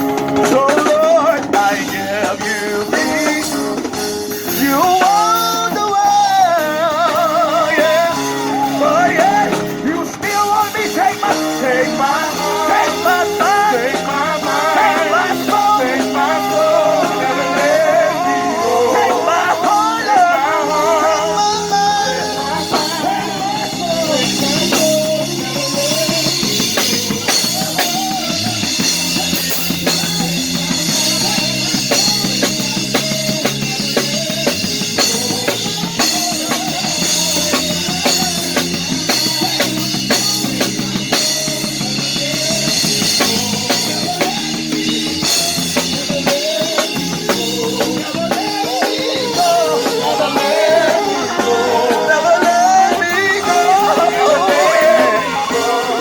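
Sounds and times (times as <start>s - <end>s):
drum kit beat: 0.0s - 56.0s
live band playing: 0.0s - 56.0s.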